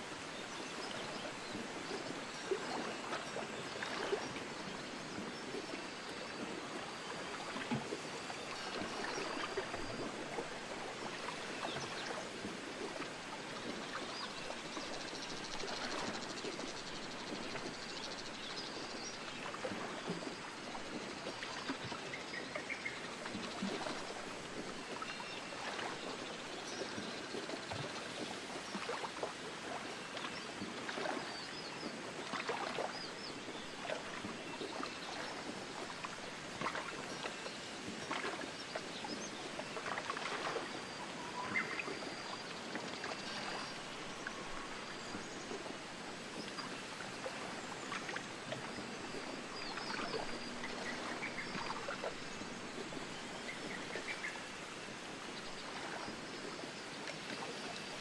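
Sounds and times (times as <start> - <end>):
rushing water with crackling splashes: 0.0 - 58.0.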